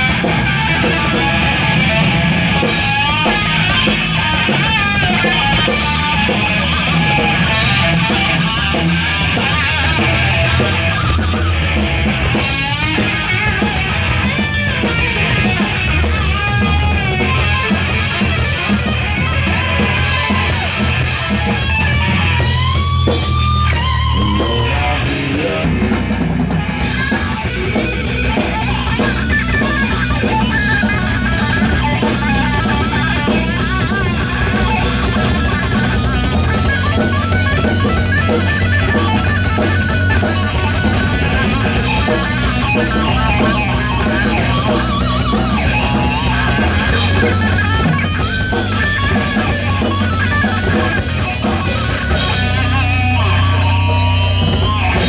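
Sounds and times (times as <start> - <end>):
distorted electric guitar solo: 0.0 - 55.0.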